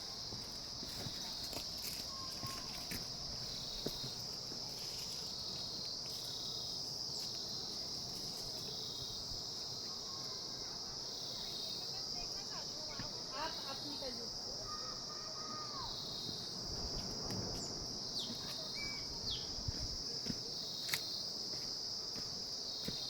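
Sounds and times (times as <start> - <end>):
shrill insect chorus: 0.0 - 23.0.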